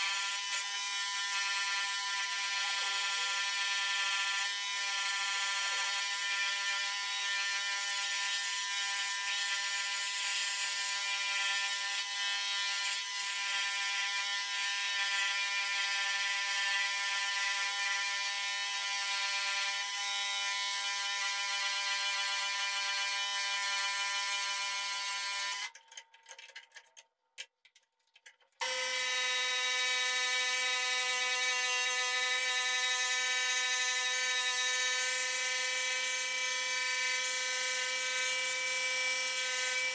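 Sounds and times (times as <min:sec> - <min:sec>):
scroll saw cutting wood: 0:00.0 - 0:25.8, 0:28.6 - 0:39.9.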